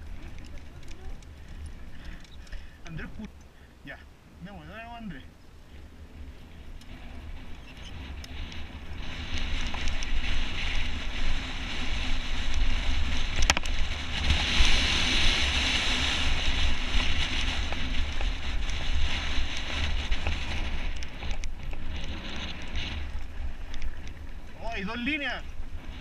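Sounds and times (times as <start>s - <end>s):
wind buffeting microphone: 0.0s - 3.3s, 5.0s - 26.0s
bike tyres rolling over gravel: 0.0s - 26.0s.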